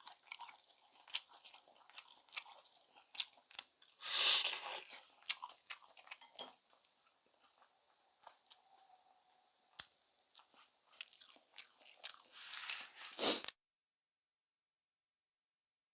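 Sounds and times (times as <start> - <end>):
person chewing: 0.0 - 13.5.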